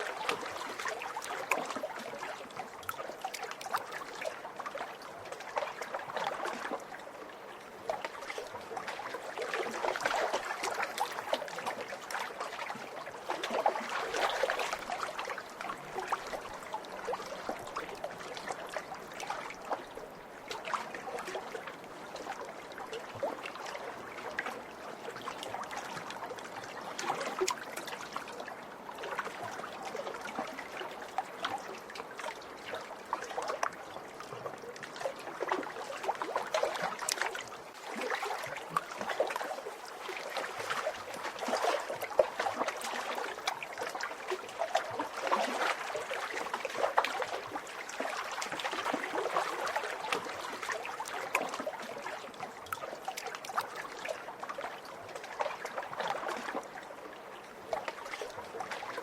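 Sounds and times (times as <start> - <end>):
lake waves lapping on shore: 0.0 - 59.0.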